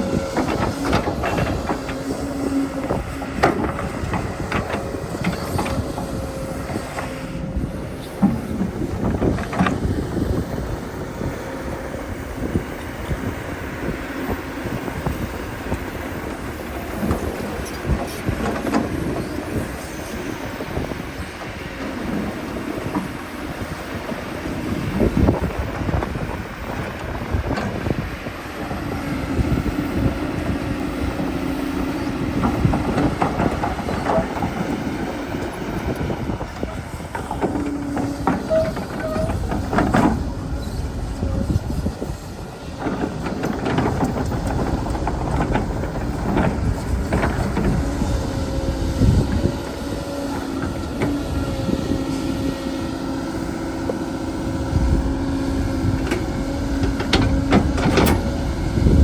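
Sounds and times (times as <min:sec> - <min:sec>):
excavator motor hum: 0:00.0 - 0:59.0.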